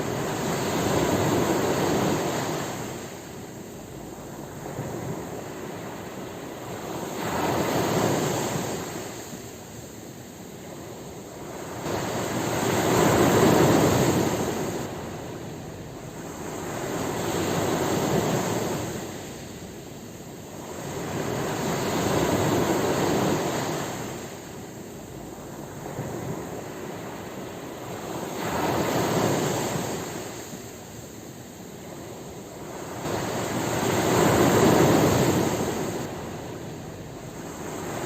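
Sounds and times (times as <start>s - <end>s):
ocean waves breaking on shore: 0.0s - 38.0s.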